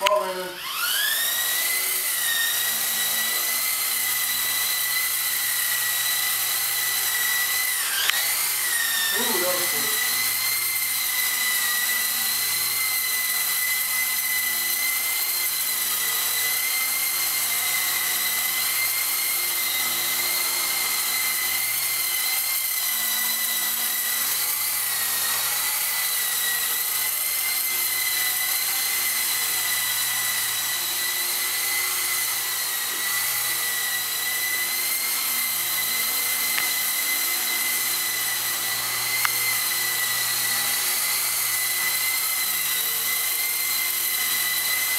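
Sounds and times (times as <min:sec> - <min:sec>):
high-pitched electric motor whine: 0:00.0 - 0:44.9.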